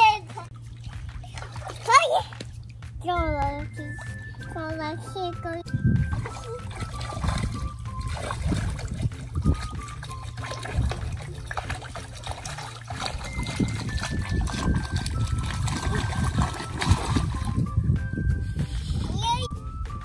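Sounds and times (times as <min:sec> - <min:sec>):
water splashing in paddling pool: 0:00.0 - 0:17.8.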